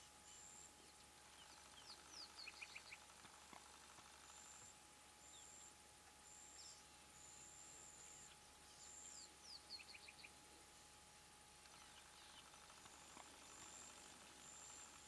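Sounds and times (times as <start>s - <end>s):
faint distant birdsong: 0.0s - 15.0s.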